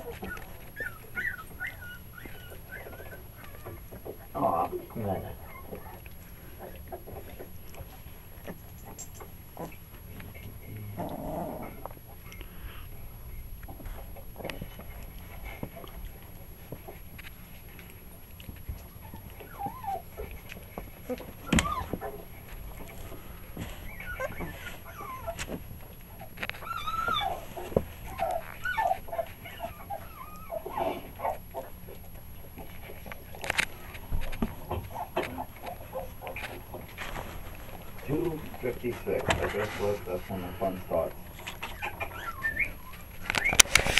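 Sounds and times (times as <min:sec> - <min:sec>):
puppies growling and squeaking: 0:00.0 - 0:43.9.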